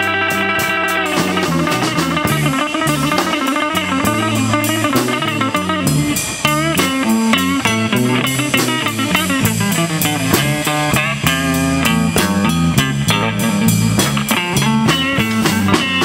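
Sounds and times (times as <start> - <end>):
bass guitar: 0.0 - 16.0
drum kit cymbals: 0.0 - 16.0
lead electric guitar with bent notes: 0.0 - 16.0.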